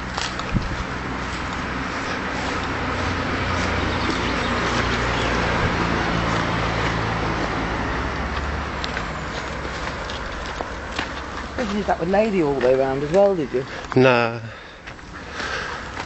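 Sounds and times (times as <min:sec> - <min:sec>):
motor vehicle passing: 0:00.0 - 0:16.0.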